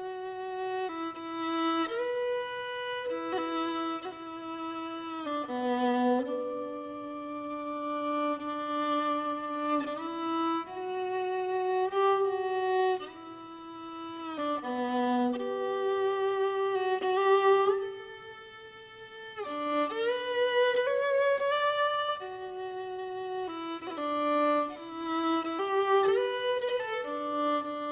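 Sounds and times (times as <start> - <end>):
solo violin slow melody: 0.0 - 27.9.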